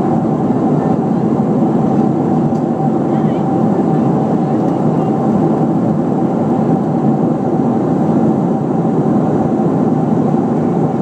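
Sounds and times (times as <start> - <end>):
airliner cabin engine rush: 0.0 - 11.0.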